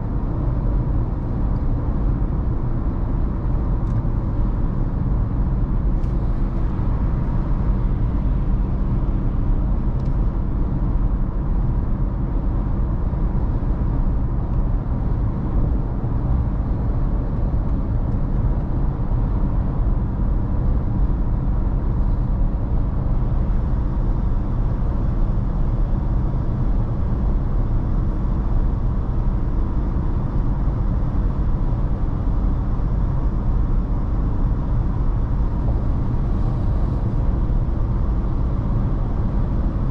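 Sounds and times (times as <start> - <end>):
low engine drone: 0.0 - 39.9
road and tyre noise: 0.0 - 39.9.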